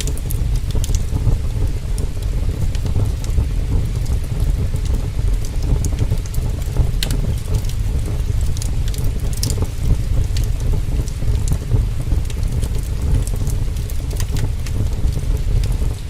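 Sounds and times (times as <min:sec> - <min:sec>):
heavy rain pouring: 0:00.0 - 0:16.0
wood fire crackling: 0:00.0 - 0:16.0.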